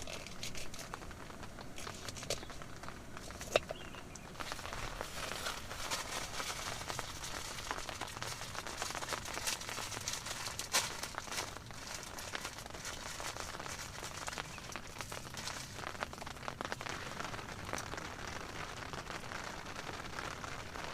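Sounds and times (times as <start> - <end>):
crinkling and rustling: 0.0 - 20.9
rain pattering on tent: 0.0 - 20.9.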